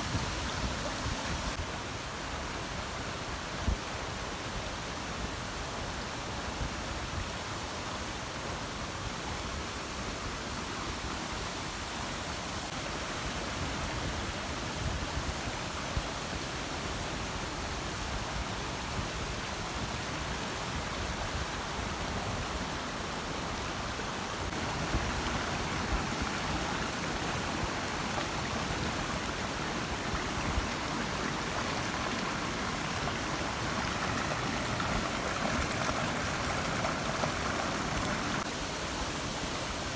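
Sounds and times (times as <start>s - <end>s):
waterfall rushing into pool: 0.0s - 39.9s.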